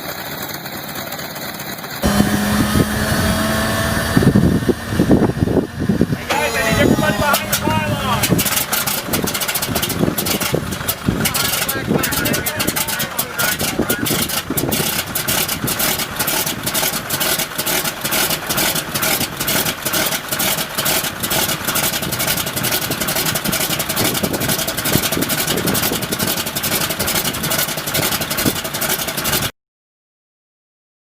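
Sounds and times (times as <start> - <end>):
piston aircraft engine idling: 0.0 - 29.5.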